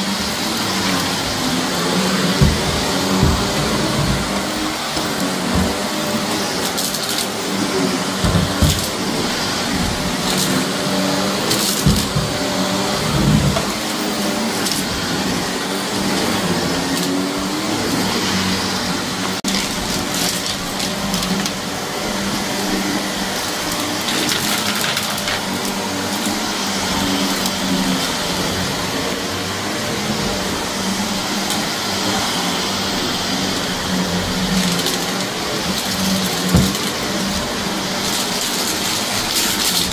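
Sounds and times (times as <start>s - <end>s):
vacuum cleaner humming: 0.0s - 39.9s.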